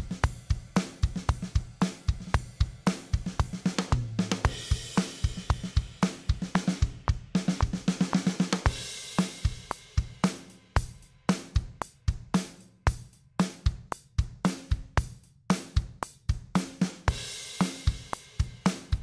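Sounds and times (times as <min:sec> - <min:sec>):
fast drum-kit beat with cymbals: 0:00.0 - 0:19.0.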